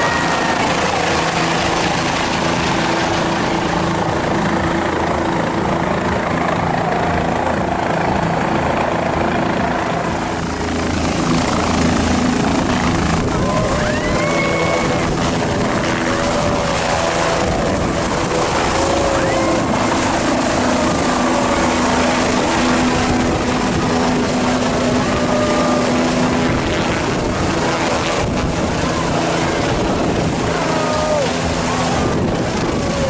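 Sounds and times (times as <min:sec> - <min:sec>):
aircraft engine drone: 0:00.0 - 0:33.0
wind buffeting microphone: 0:00.0 - 0:33.0.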